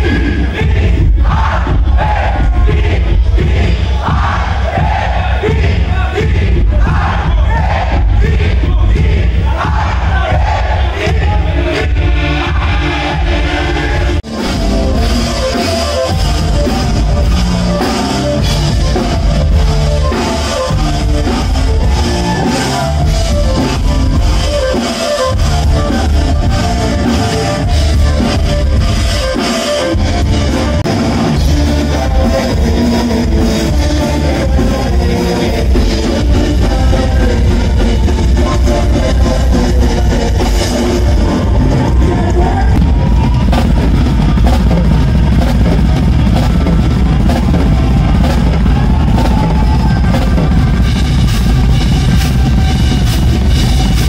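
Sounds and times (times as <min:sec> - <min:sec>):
drum kit: 0:00.0 - 0:54.0
live rock band: 0:00.0 - 0:54.0.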